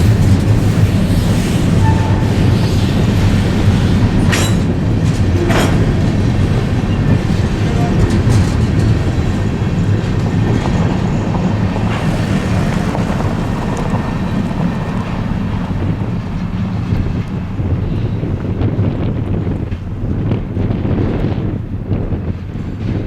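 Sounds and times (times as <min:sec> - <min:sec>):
freight train rumbling past: 0:00.0 - 0:23.0
wheels clicking over rail joints: 0:00.0 - 0:23.0.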